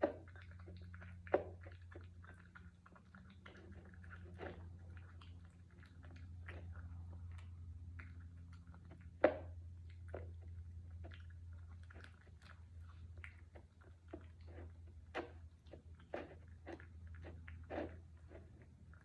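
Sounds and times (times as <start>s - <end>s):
dog chewing and crunching food: 0.0s - 19.0s.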